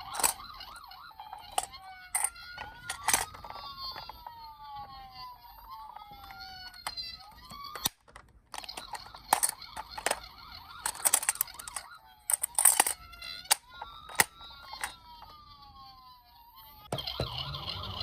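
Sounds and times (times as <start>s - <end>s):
toy electronic sirens: 0.0s - 8.0s, 8.6s - 18.0s
plastic toys clattering: 0.0s - 15.4s.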